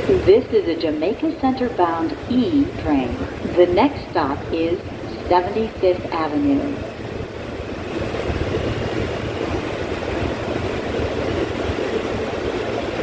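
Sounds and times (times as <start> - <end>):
subway car rumble and hiss: 0.0 - 13.0.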